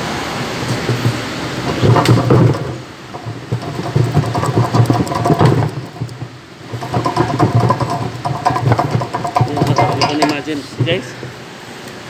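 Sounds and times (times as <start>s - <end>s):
motor pulsing hum: 0.0s - 12.0s.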